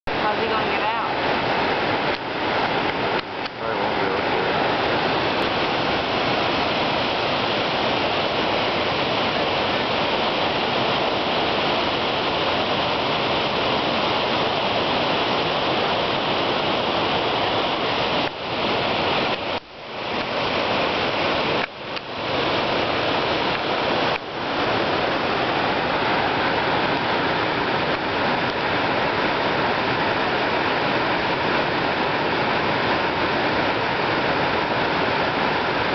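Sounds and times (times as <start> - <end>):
water rushing over rocks: 0.0 - 35.9.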